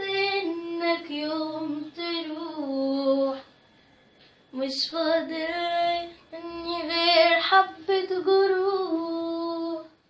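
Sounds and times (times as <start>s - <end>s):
woman singing unaccompanied: 0.0s - 3.5s, 4.5s - 10.0s.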